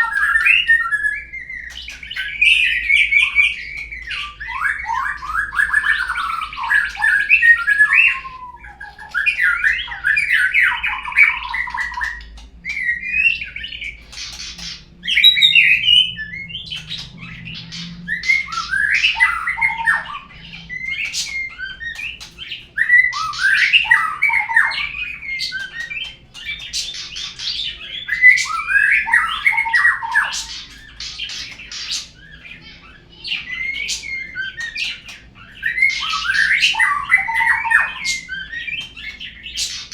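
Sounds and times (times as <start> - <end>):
songbird whistles and trills: 0.0 - 39.9.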